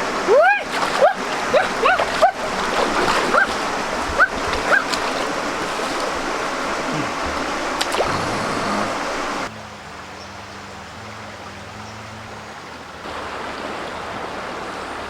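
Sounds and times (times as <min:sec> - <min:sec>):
water rushing in a stream: 0:00.0 - 0:15.0.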